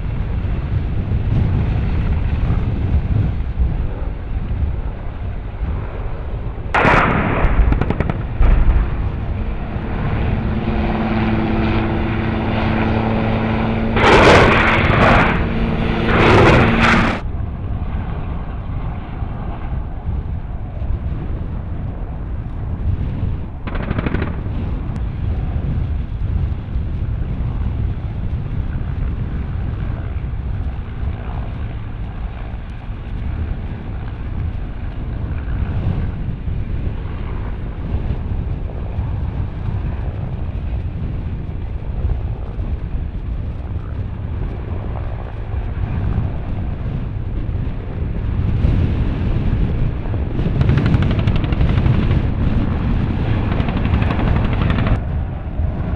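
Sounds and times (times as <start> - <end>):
helicopter rotor and turbines: 0.0 - 55.9.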